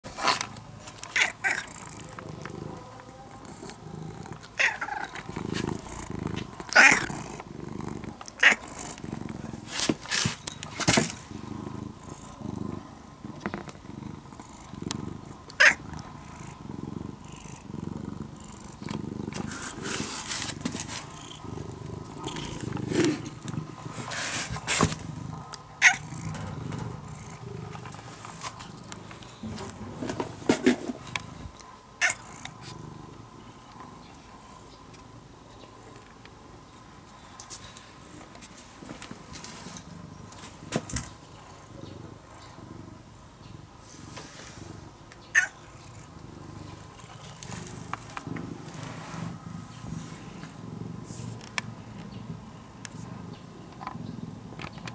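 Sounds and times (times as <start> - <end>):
cat purring: 0.0 - 38.4, 39.0 - 54.9.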